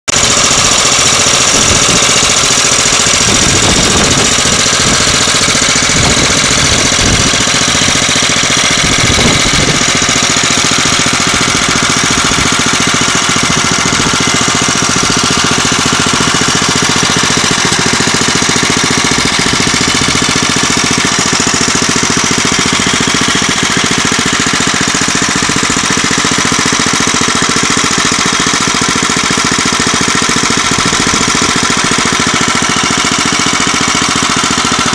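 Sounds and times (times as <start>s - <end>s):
engine knocking: 0.1s - 34.9s
small engine idling: 0.1s - 34.9s.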